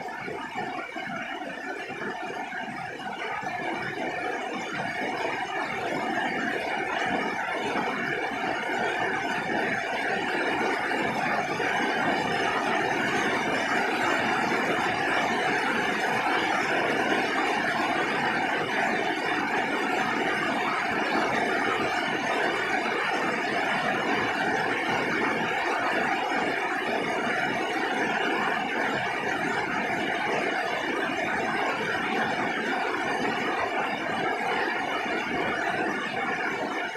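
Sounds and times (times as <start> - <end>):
heavy rain on a roof: 3.6 - 36.9.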